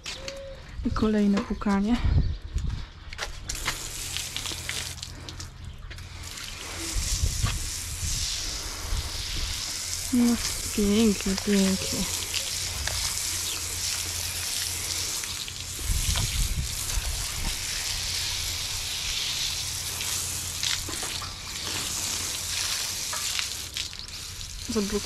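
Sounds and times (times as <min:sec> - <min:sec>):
hose nozzle spraying water: 0:03.5 - 0:25.0.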